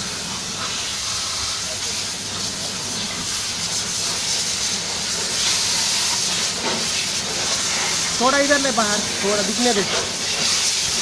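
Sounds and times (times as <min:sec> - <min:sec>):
high-pressure water spray hissing: 0:00.0 - 0:11.0.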